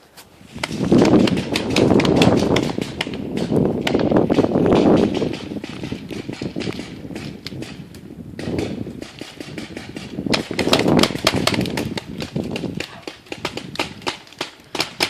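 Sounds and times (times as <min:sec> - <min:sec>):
paintball markers firing: 0:00.6 - 0:15.0.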